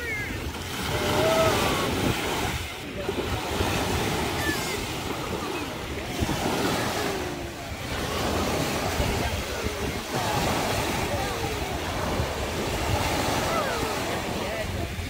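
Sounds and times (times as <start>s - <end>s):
sea surf breaking on shore: 0.0s - 15.0s.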